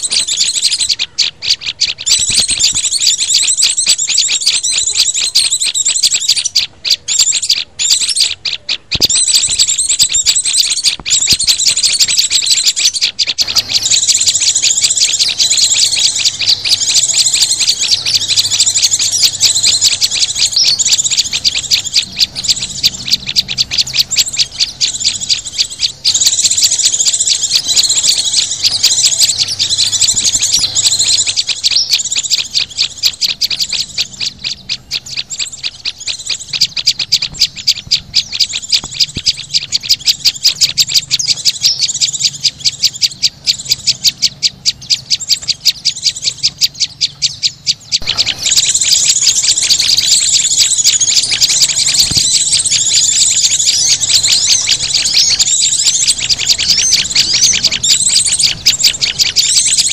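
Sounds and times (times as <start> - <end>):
songbirds chirping rapidly: 0.0 - 59.9.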